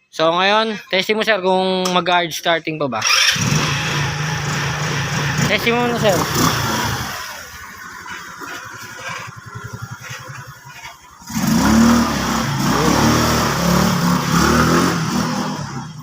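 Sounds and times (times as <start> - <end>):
scooter engine revving: 3.0 - 16.0.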